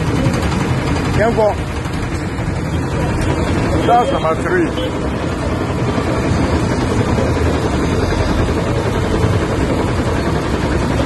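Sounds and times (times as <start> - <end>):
machinery engine rumble: 0.0 - 11.0.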